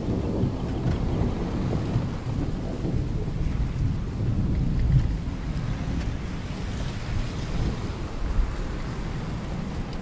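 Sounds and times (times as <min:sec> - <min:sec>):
low rumble of thunder: 0:00.0 - 0:10.0
rain: 0:00.0 - 0:10.0.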